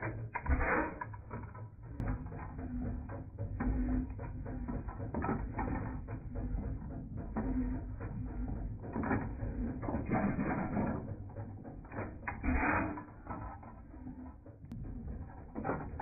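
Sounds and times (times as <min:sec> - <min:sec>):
stationary gas engine clattering: 0:00.0 - 0:16.0.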